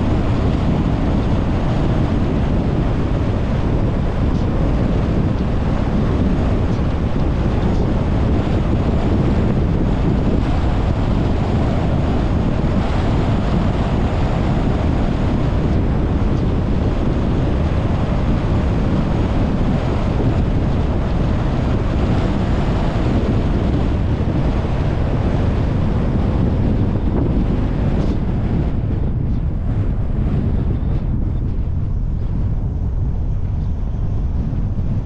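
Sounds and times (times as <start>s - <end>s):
car wind and road noise: 0.0s - 35.0s
wind buffeting microphone: 0.0s - 35.0s.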